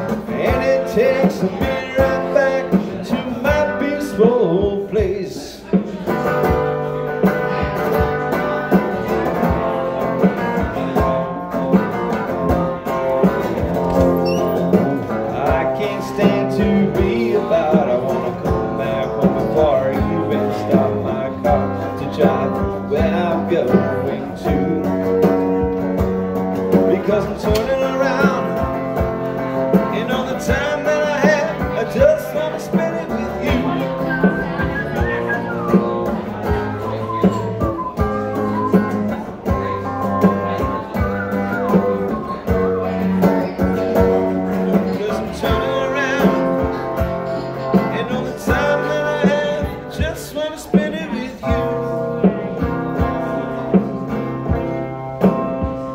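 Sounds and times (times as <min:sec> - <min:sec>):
bass: 0:00.0 - 0:55.9
electric guitar lead: 0:00.0 - 0:55.9.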